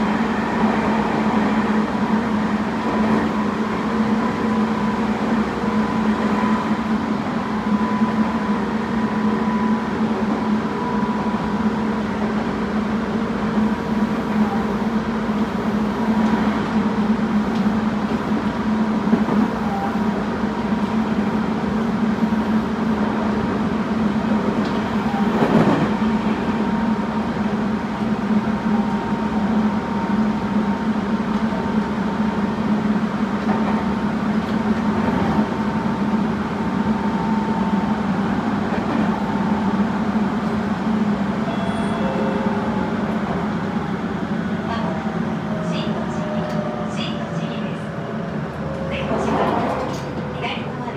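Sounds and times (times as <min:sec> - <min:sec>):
train motor and inverter hum: 0:00.0 - 0:50.9.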